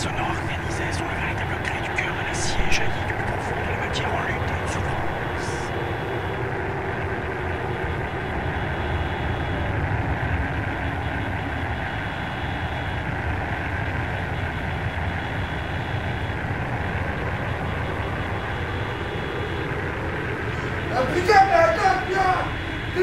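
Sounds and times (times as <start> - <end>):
faint high whine: 0.0 - 23.0.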